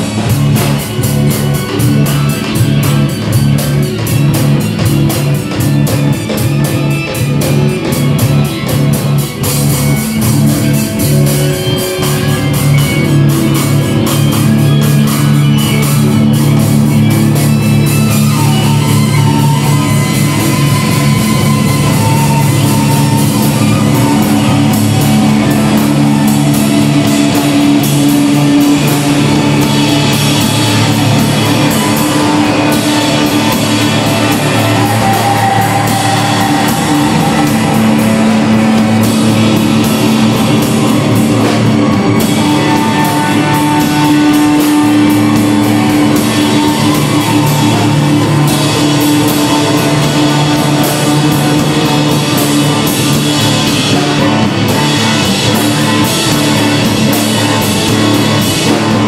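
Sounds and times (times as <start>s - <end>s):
bass: 0.0s - 59.0s
drums: 0.0s - 59.0s
electric guitar: 0.0s - 59.0s.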